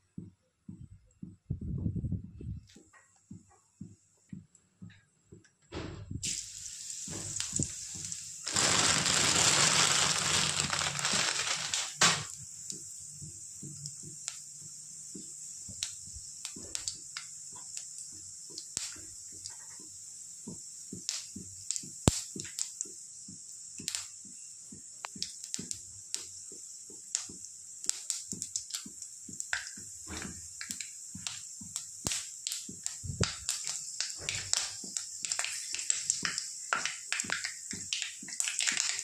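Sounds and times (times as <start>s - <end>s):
faint sizzle: 6.2s - 39.0s
seeds popping in hot oil: 6.2s - 39.0s.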